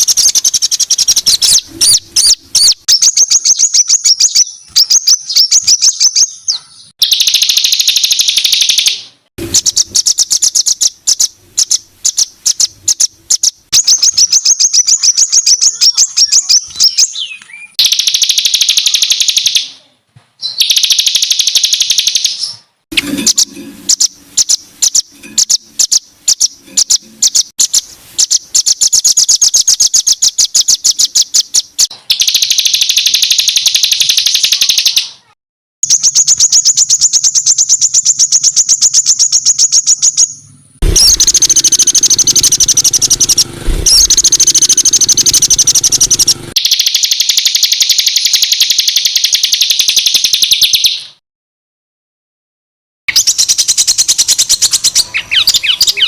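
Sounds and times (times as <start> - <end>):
songbird rapid buzzy trills: 0.0 - 19.7, 20.5 - 51.2, 53.1 - 56.0.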